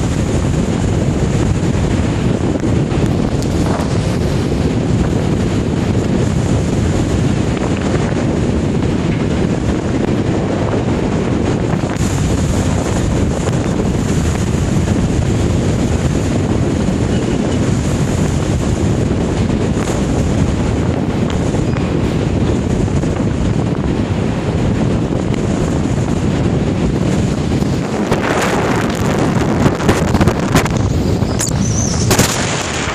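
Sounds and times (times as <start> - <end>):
heavy sea and breaking waves: 0.0 - 32.9
wind buffeting microphone: 0.0 - 32.9.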